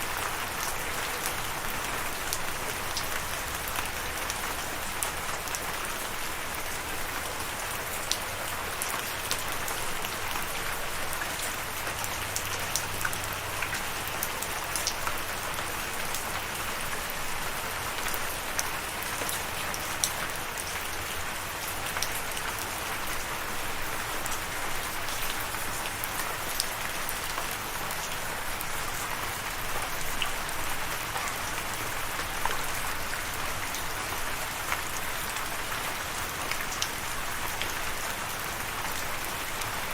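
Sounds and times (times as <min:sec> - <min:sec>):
rain with pattering drops: 0:00.0 - 0:39.9.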